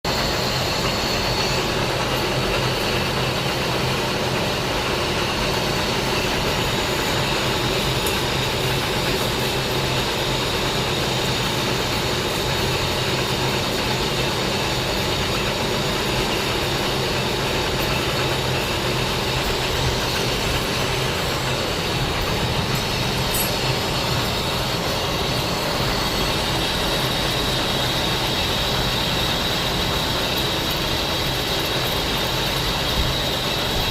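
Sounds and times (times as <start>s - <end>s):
high whine: 0.1s - 33.9s
lathe humming: 0.1s - 33.9s.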